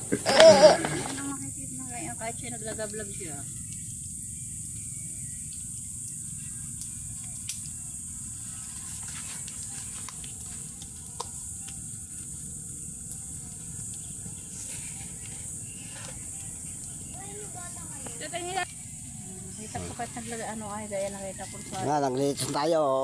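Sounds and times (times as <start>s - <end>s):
fire popping: 0.0s - 22.8s
high hiss: 0.0s - 23.0s
wood fire crackling: 0.0s - 23.0s.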